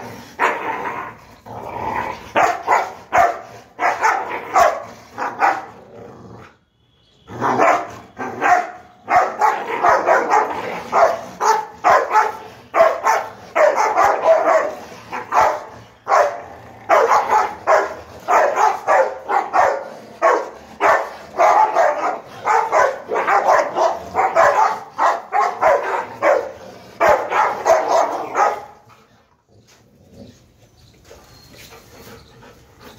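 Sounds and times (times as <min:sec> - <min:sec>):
dogs barking and growling: 0:00.0 - 0:06.6, 0:07.3 - 0:30.7.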